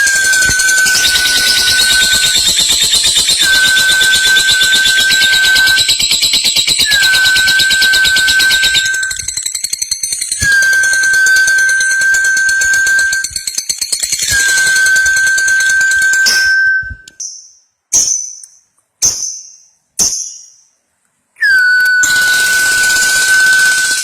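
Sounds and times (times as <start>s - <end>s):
bird chirps: 0.0s - 20.8s.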